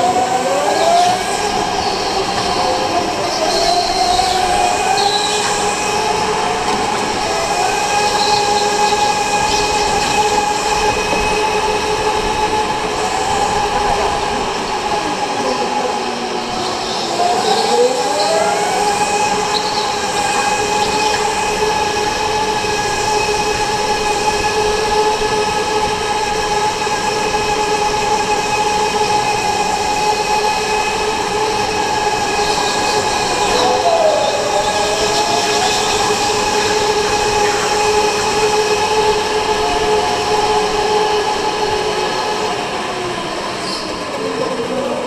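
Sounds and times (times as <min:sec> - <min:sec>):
electric go-kart motor whining: 0:00.0 - 0:42.6.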